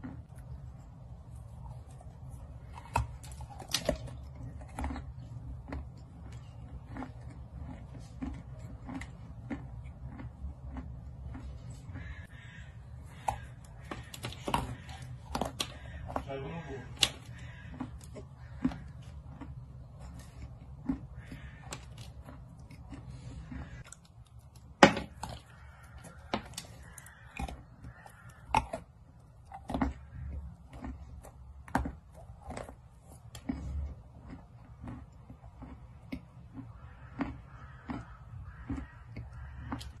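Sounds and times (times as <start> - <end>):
clay crunching between teeth: 0.0 - 40.0.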